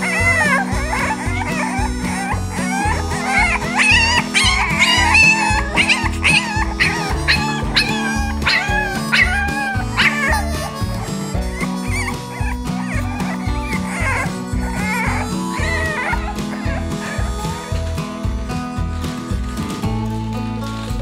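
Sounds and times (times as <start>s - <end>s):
puppies barking: 0.0s - 19.8s
background music with beat: 0.0s - 21.0s.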